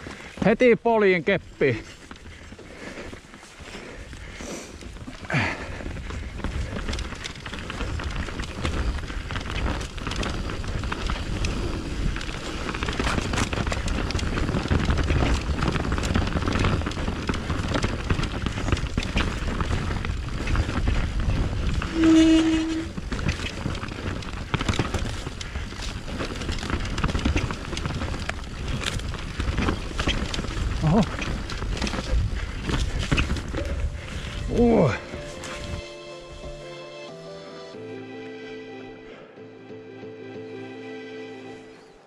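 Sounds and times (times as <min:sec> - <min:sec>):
mountain bike rumbling and rattling: 0:00.0 - 0:36.6.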